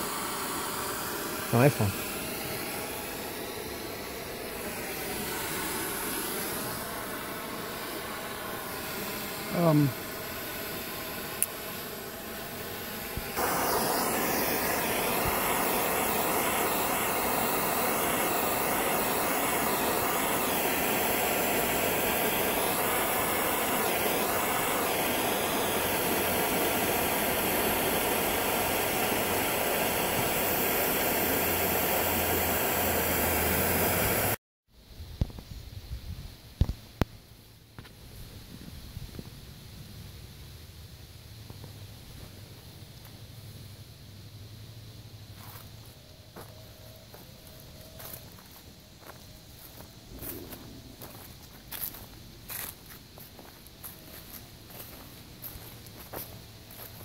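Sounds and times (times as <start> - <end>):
propane torch hissing: 0.0 - 34.4, 41.2 - 57.0.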